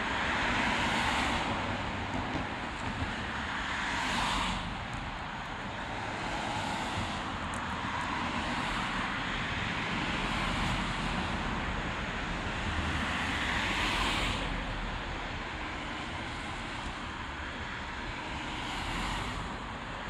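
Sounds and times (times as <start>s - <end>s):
cars passing on street: 0.0s - 20.0s.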